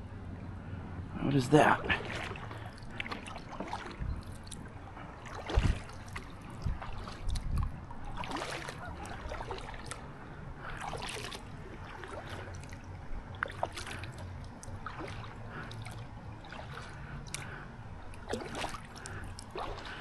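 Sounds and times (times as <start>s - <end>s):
paddle stroking through water: 1.6s - 20.0s.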